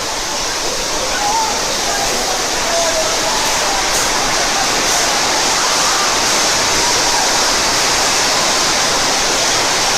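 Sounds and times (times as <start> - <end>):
heavy rain downpour: 0.0 - 9.9.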